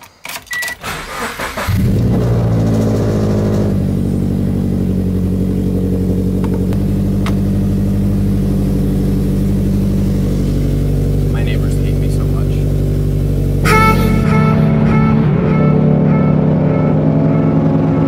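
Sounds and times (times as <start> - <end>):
car engine starting and idling: 0.0 - 18.0.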